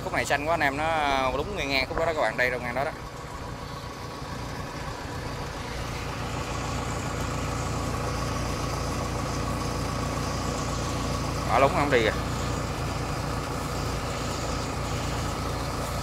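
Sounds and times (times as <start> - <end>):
combine harvester engine running: 0.0 - 16.0
steady high-pitched machine hiss: 0.0 - 16.0.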